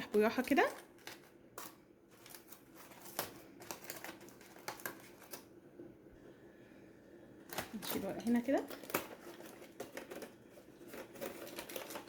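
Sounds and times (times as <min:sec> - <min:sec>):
aluminium foil crinkling: 0:00.0 - 0:05.6, 0:07.4 - 0:12.0.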